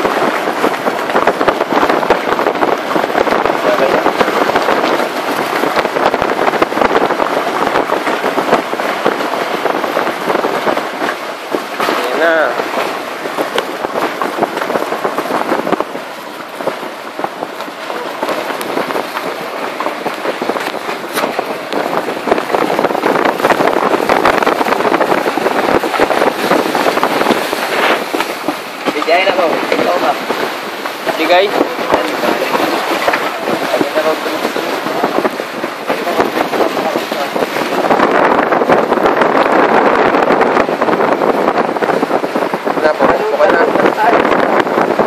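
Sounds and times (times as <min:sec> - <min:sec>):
boat engine running: 0:00.0 - 0:45.0
rough sea: 0:00.0 - 0:45.0
strong wind rushing: 0:00.0 - 0:45.0.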